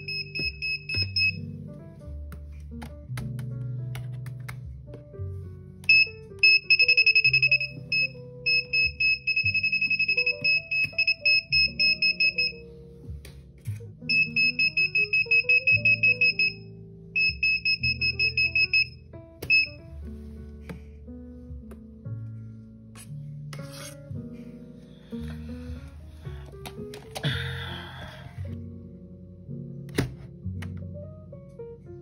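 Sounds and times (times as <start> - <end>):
background music: 0.0 - 32.0.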